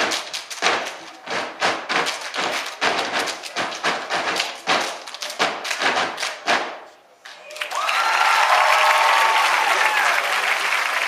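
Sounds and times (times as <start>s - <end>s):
hands clapping rhythmically: 0.0s - 11.0s.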